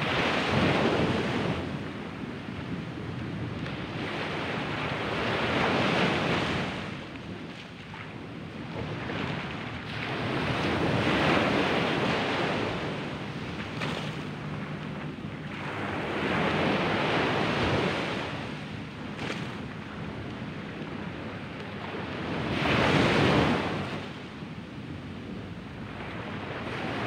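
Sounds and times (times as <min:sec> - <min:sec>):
ocean waves breaking on sand: 0:00.0 - 0:27.0
wind buffeting microphone: 0:00.0 - 0:27.0.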